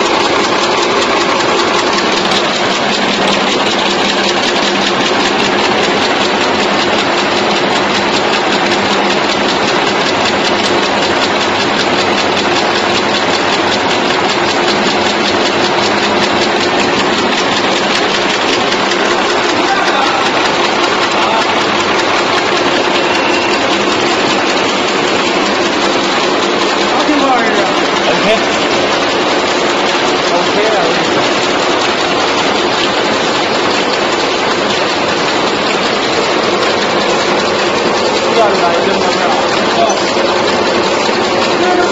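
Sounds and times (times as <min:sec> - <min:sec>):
machinery clattering: 0:00.0 - 0:41.9
motor hum: 0:00.0 - 0:41.9.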